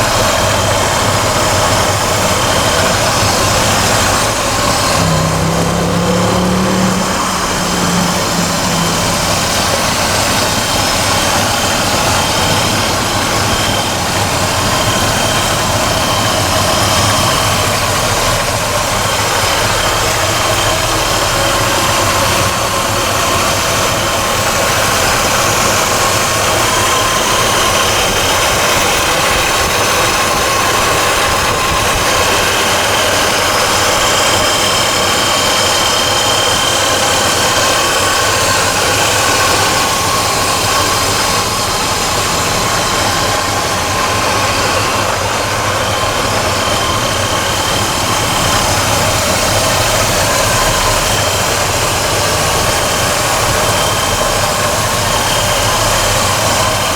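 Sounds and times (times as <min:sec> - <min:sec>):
pickup engine running: 0:00.0 - 0:56.9.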